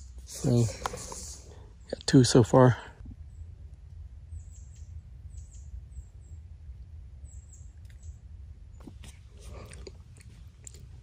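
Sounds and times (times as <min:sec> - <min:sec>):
songbird chirping: 0:00.0 - 0:11.0
steady low rumble: 0:00.0 - 0:11.0.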